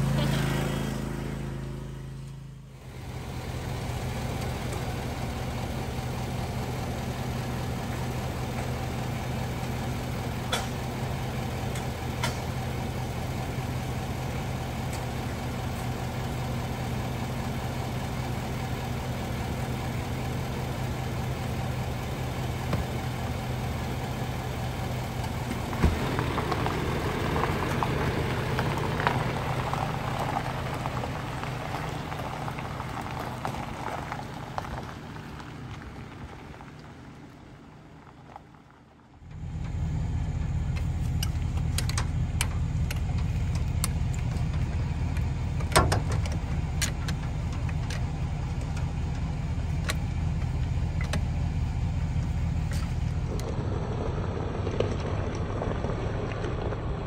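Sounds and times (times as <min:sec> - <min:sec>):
low engine hum: 0:00.0 - 0:57.0
road noise: 0:00.0 - 0:57.0.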